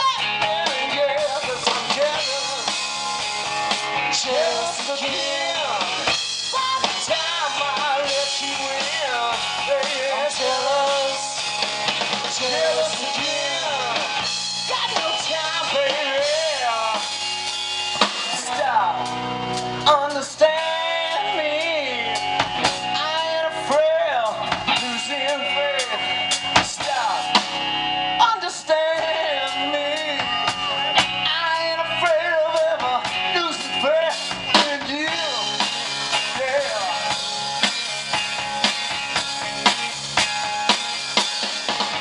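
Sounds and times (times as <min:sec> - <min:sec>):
bass guitar: 0:00.0 - 0:42.0
drum kit: 0:00.0 - 0:42.0
electric guitar lead line: 0:00.0 - 0:42.0.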